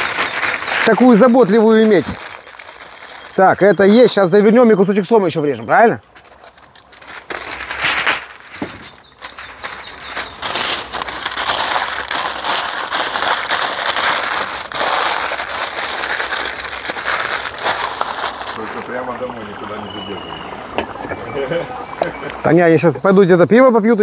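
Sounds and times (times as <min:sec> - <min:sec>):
paper and plastic wrap crinkling: 0:00.0 - 0:04.9, 0:06.0 - 0:22.4.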